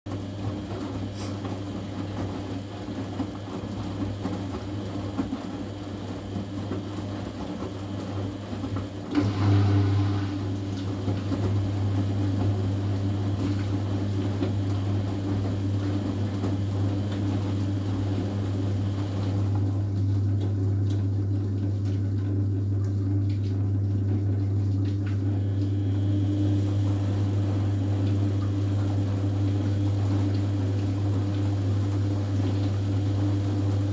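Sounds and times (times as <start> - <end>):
low machine hum: 0.1 - 33.9.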